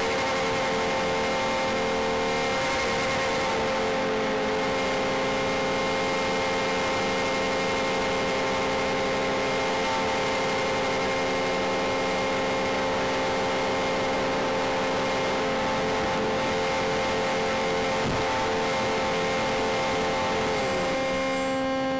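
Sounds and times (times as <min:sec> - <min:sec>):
model plane motors droning: 0:00.0 - 0:21.9.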